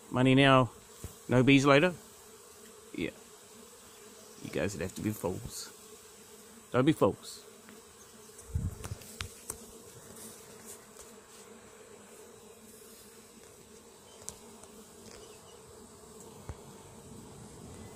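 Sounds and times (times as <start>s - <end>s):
bees buzzing: 0.0s - 17.9s.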